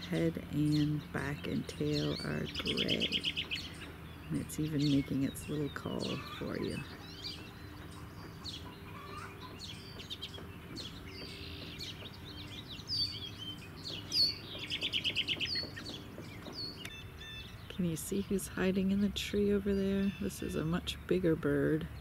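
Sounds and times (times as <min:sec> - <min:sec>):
birds chirping: 0:00.0 - 0:22.0
robin calling: 0:00.0 - 0:22.0.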